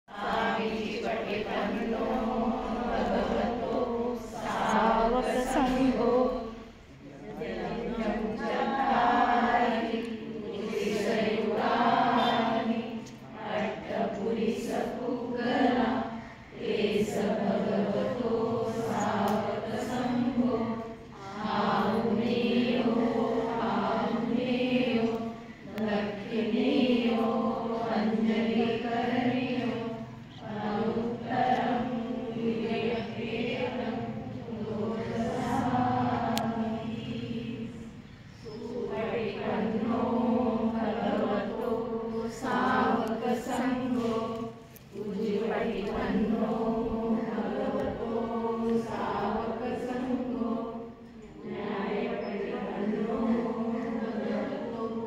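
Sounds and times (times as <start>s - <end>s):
group of voices chanting: 0.1s - 55.0s.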